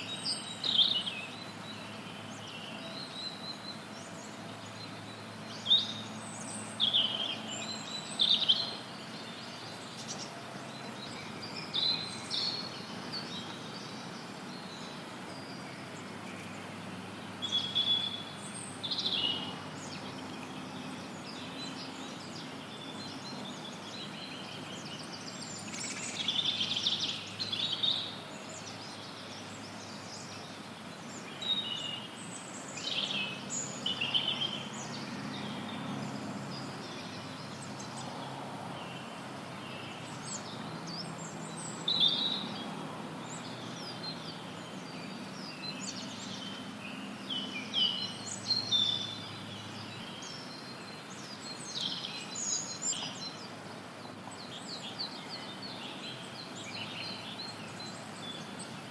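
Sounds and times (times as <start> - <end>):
songbirds chirping and trilling: 0.0 - 58.9
white noise hiss: 0.0 - 58.9.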